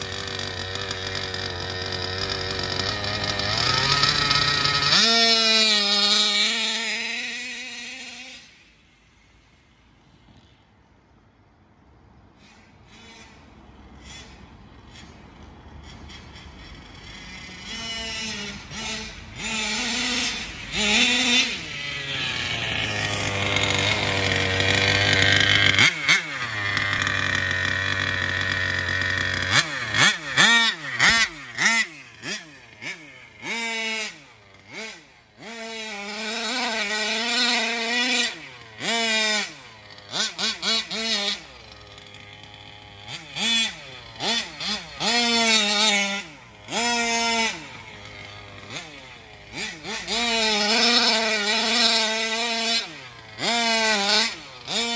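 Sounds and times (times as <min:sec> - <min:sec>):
two-stroke engine revving: 0:00.0 - 0:10.7, 0:12.4 - 0:54.9.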